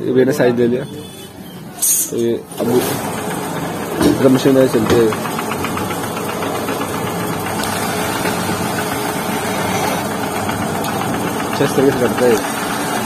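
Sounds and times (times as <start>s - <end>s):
roll-cutting machine running: 1.8s - 13.0s.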